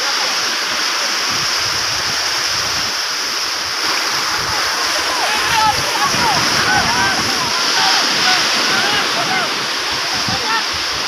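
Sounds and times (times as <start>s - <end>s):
surf breaking on a beach: 0.0s - 11.0s
wind buffeting the microphone: 1.2s - 11.0s.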